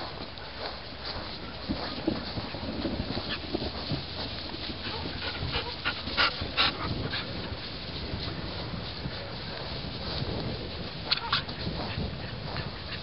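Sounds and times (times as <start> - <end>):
dogs and puppies playing: 0.0 - 13.0.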